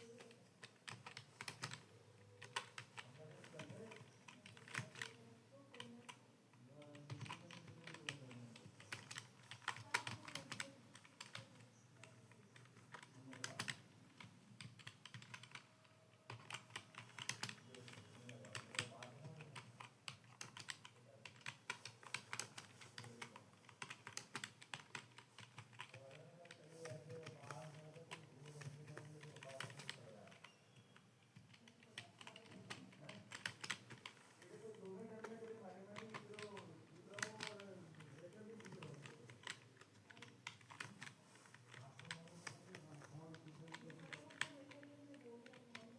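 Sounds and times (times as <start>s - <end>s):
computer keyboard typing: 0.0s - 45.9s.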